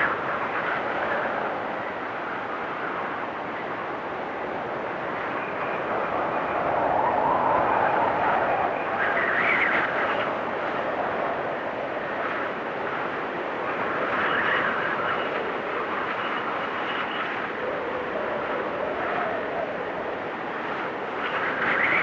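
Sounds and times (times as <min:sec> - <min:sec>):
blizzard wind gusting: 0:00.0 - 0:22.0.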